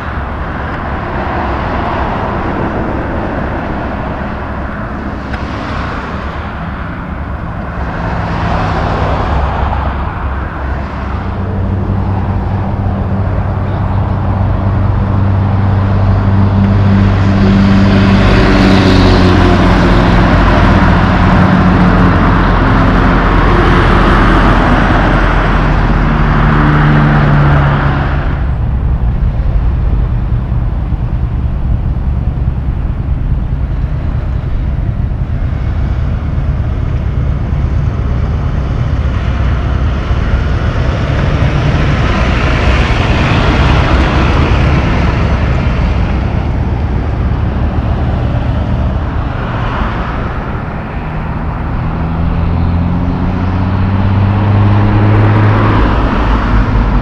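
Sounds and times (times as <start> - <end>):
highway traffic passing: 0.0 - 57.0
street intersection traffic: 0.0 - 57.0.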